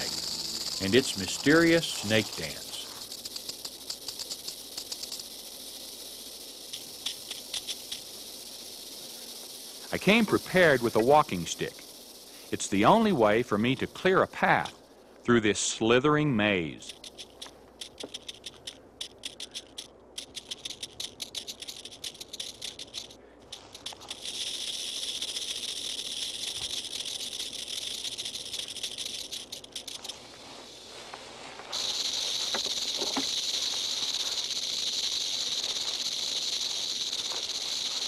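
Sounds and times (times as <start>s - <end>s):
rattlesnake rattling its tail: 0.0s - 38.0s.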